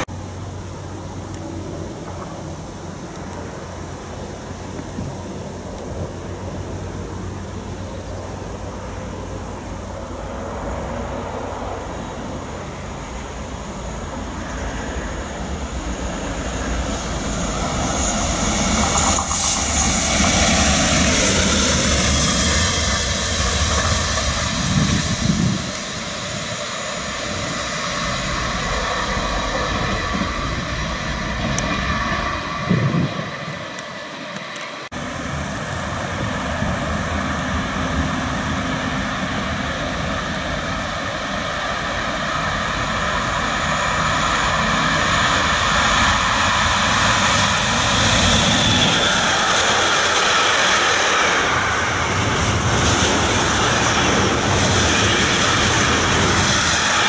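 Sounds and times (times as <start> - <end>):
diesel locomotive passing: 0.0 - 57.0
falling engine whine: 0.0 - 57.0.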